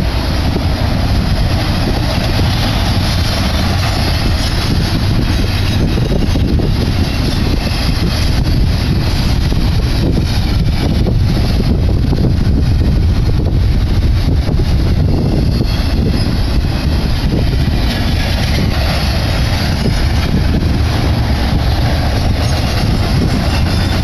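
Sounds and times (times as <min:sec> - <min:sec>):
steel wheels rumbling on rail: 0:00.0 - 0:24.0
wind buffeting microphone: 0:00.0 - 0:24.0.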